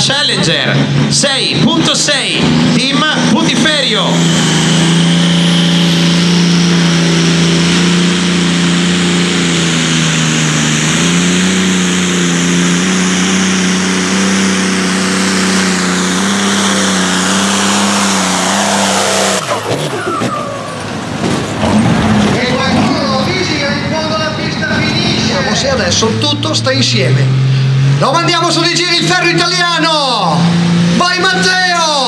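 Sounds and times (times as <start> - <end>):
tractor engine at high revs: 0.0 - 23.2, 24.5 - 32.0.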